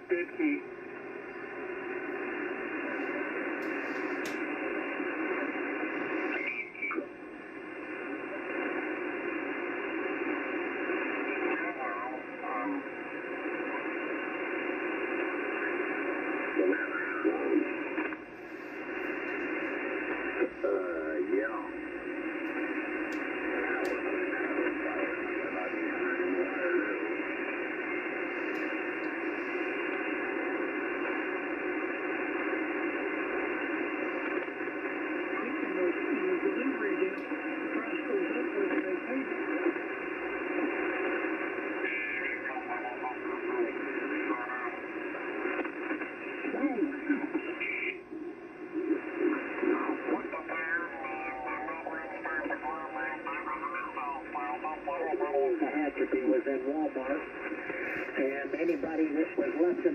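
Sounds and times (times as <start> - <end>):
radio speaker hissing: 0.0 - 59.9.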